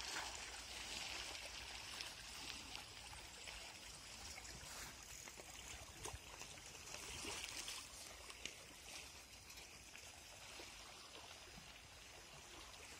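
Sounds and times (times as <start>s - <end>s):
small waves lapping on rocks: 0.0s - 12.9s.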